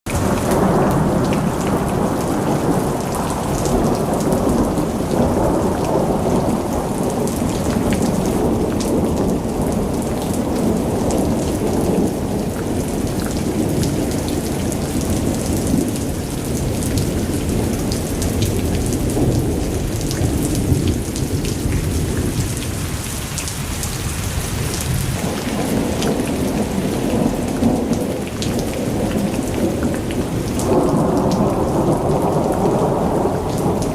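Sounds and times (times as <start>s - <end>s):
steady rain falling: 0.1s - 33.9s
thunder rumbling: 0.1s - 33.9s.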